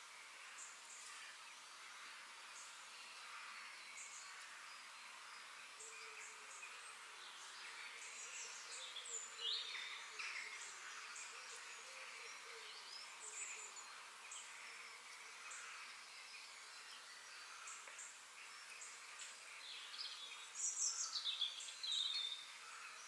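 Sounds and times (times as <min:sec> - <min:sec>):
faint background hiss: 0:00.0 - 0:23.0
small birds chirping: 0:00.0 - 0:23.0.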